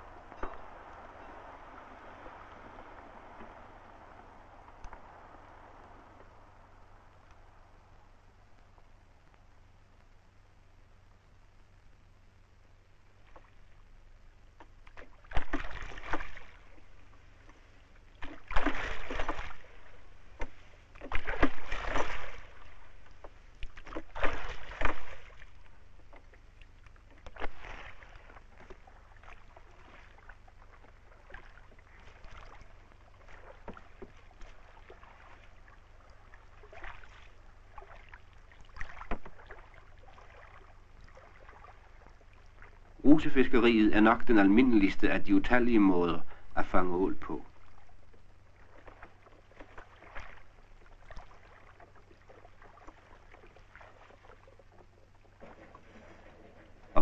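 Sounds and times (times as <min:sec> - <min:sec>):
oars splashing in water: 0:00.0 - 0:09.4, 0:13.1 - 0:57.0
water sloshing: 0:00.0 - 0:10.4, 0:12.7 - 0:57.0
steady low hum: 0:00.0 - 0:57.0.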